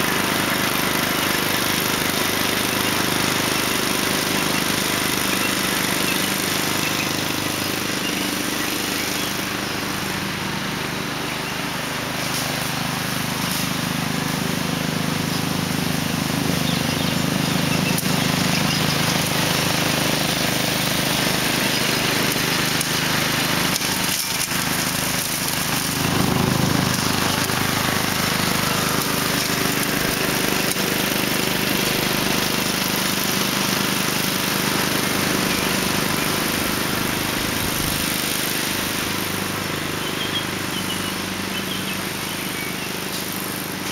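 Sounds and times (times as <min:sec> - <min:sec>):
ride-on mower engine running: 0:00.0 - 0:43.9.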